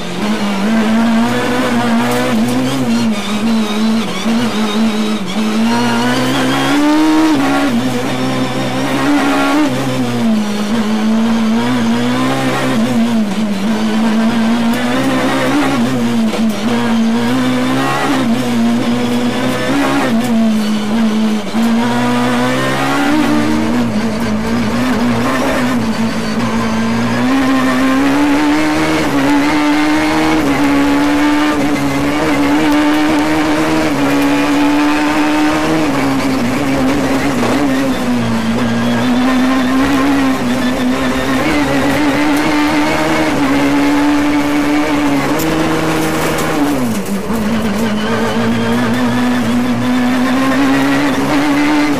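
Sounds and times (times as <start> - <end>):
rally car engine revving: 0.0 - 51.9.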